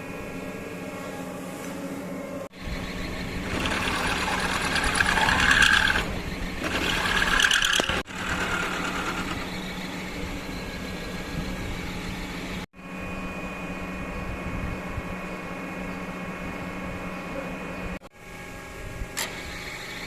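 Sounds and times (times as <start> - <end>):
faint high whine: 0.0 - 20.0
workshop machinery humming: 0.0 - 20.0.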